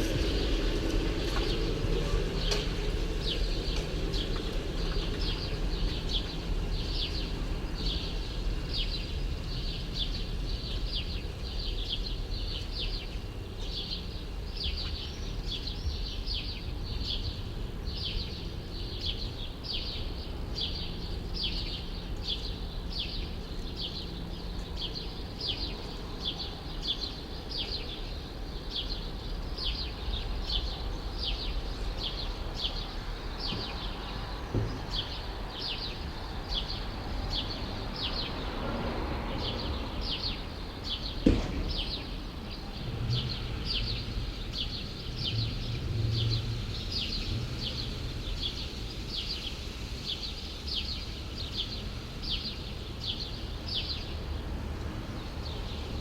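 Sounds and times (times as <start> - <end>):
low city rumble: 0.0 - 56.0.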